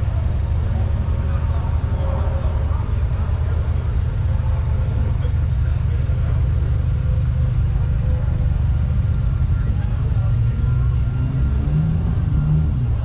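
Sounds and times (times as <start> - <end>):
car engine idling: 0.0 - 13.0
faint voices: 0.0 - 13.0.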